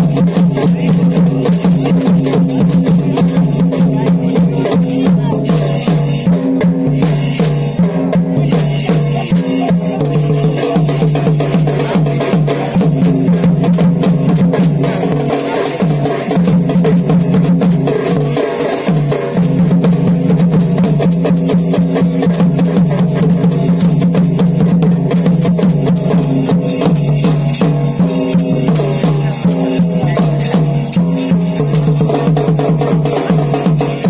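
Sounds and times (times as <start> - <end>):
fast drumming: 0.0 - 34.0.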